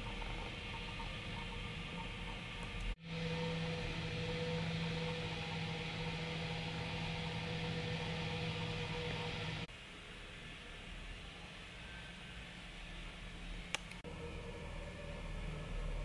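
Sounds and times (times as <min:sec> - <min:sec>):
low hum: 0:00.0 - 0:16.0
steady low tone: 0:00.0 - 0:16.0.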